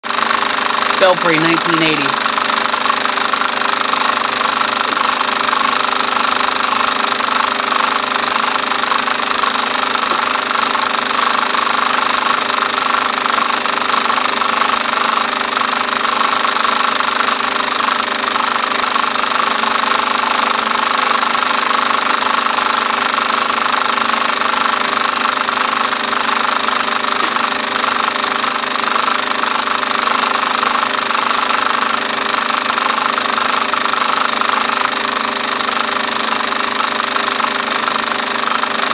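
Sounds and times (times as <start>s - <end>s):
film projector clattering: 2.3s - 38.9s.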